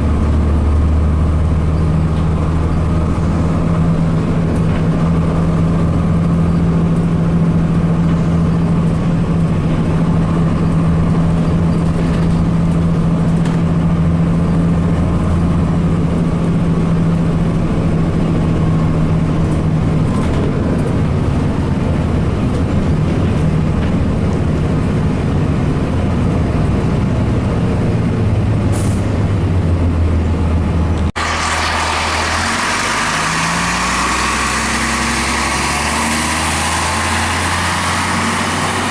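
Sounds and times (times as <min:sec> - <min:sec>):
diesel bus engine running: 0:00.0 - 0:38.9.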